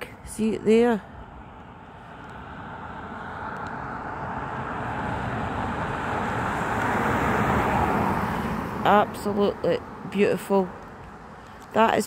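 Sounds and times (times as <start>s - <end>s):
car driving on wet street: 1.1s - 11.8s.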